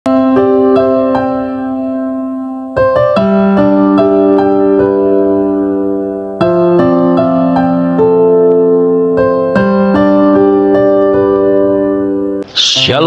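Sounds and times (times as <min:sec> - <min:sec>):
gentle keyboard music: 0:00.1 - 0:13.0.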